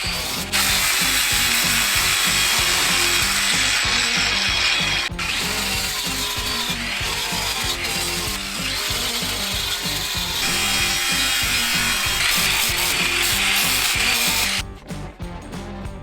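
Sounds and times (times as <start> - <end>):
angle grinder grinding metal: 0.0 - 14.6.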